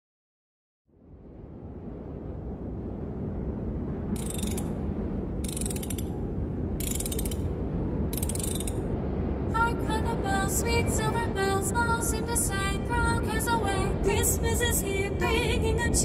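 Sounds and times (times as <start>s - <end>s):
low rumbling ambience: 0.9s - 16.0s.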